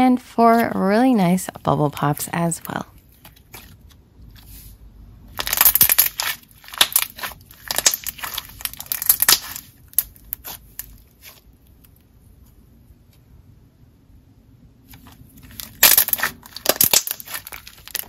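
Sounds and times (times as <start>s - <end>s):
slime squishing with crackles: 0.3s - 12.4s, 14.9s - 18.0s.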